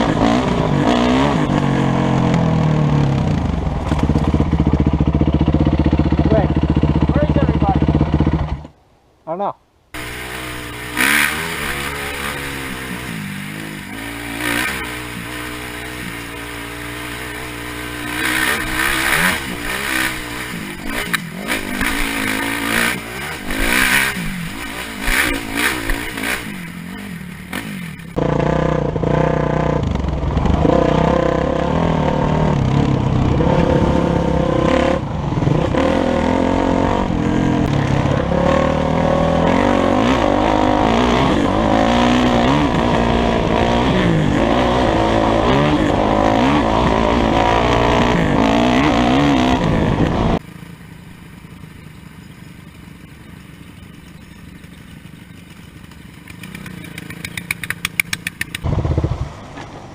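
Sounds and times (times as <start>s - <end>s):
dirt bike engine revving: 0.0s - 8.8s, 9.9s - 59.9s.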